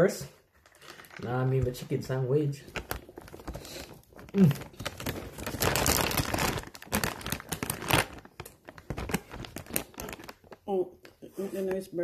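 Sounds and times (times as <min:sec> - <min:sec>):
paper crinkling and tearing: 0:00.8 - 0:10.6.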